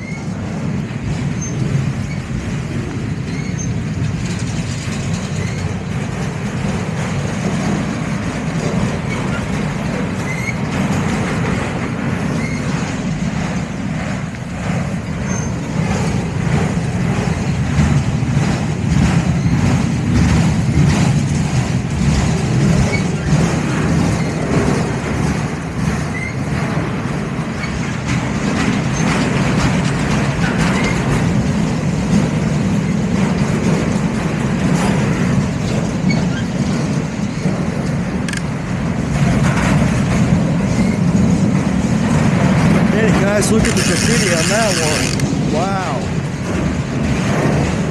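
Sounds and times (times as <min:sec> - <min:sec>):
freight train rumbling: 0:00.0 - 0:47.9
wheels clicking over rail joints: 0:00.0 - 0:47.9.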